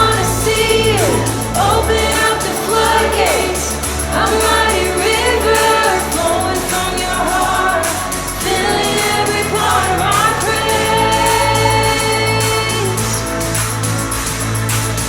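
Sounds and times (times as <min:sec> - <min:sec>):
steady bass: 0:00.0 - 0:15.0
ticking beat: 0:00.0 - 0:15.0
voices singing sliding notes: 0:00.0 - 0:15.0.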